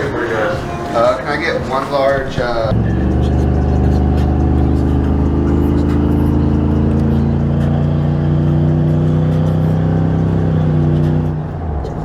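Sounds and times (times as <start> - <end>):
truck engine from inside cab: 0.0 - 12.0.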